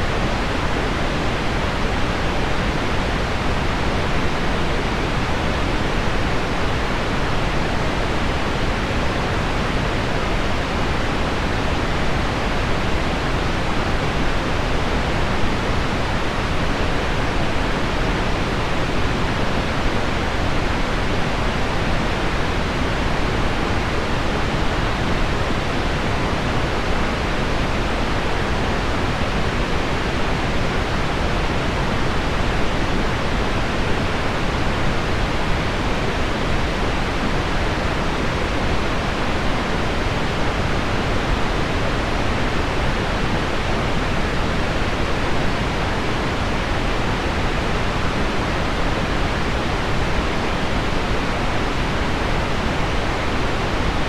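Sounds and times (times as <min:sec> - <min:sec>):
low pink noise: 0:00.0 - 0:54.0.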